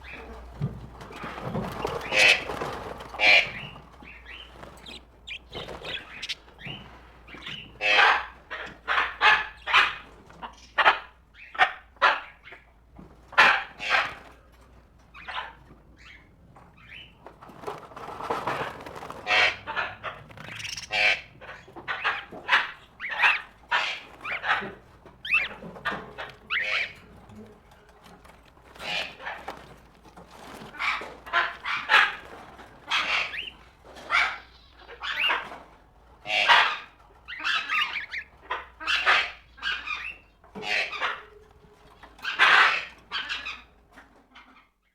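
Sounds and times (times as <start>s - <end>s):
tropical birds calling: 0.0s - 14.4s, 15.0s - 44.9s.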